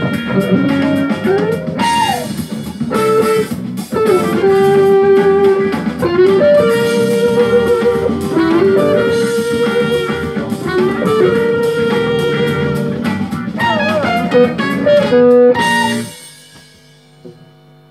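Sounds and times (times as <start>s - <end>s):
bass and drum backing: 0.0s - 17.6s
electric guitar lead: 0.0s - 17.7s.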